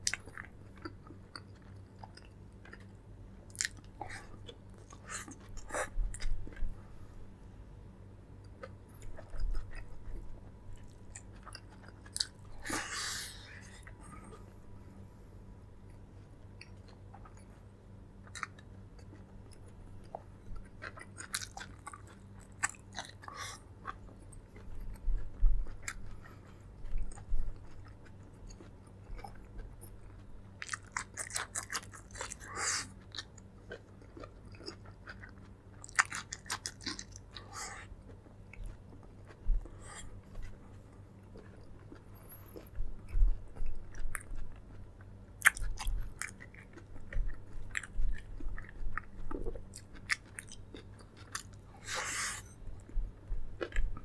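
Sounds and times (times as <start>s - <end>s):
person chewing and crunching: 0.0s - 6.8s, 8.4s - 14.7s, 15.8s - 54.0s
faint steady hum: 0.0s - 54.0s.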